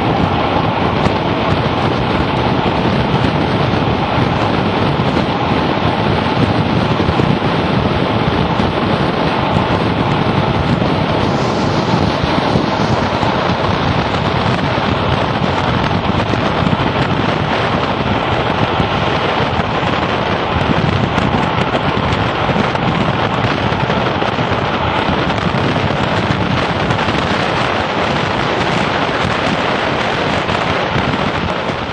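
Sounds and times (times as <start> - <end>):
diesel train running: 0.0 - 31.9
wind rushing over microphone: 0.0 - 31.9.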